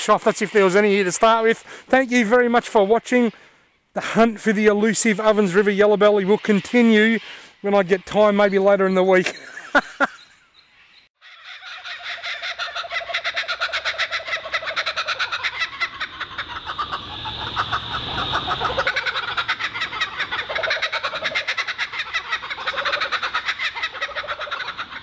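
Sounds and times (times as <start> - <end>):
kookaburras cackling: 4.0 - 25.0.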